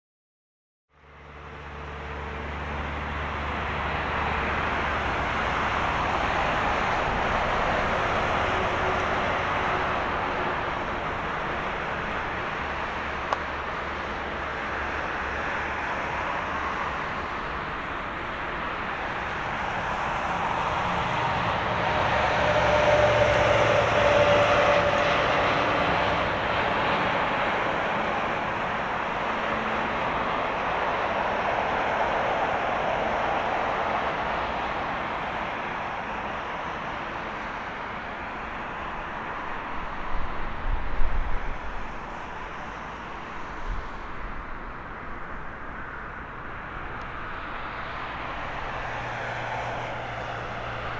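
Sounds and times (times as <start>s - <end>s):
jet engines roaring: 2.2s - 50.9s.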